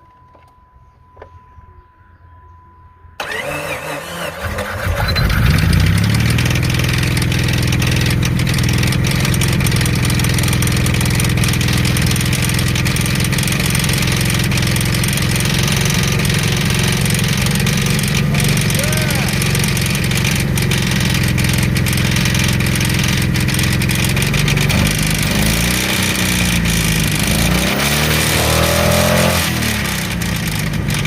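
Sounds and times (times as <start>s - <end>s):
starter cranking engine: 3.2s - 31.0s
engine idling with knock: 5.3s - 28.5s, 29.2s - 31.0s.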